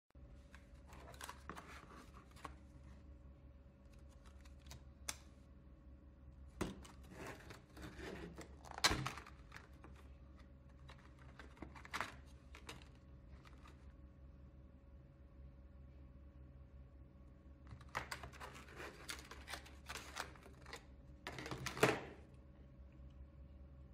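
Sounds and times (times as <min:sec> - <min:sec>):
faint steady hum: 0:00.2 - 0:23.9.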